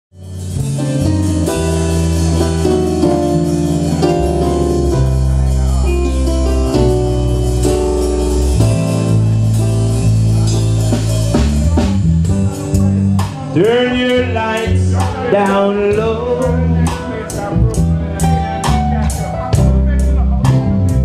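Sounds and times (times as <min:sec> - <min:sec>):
deep bass line: 0:00.1 - 0:21.0
live reggae band: 0:00.1 - 0:21.0.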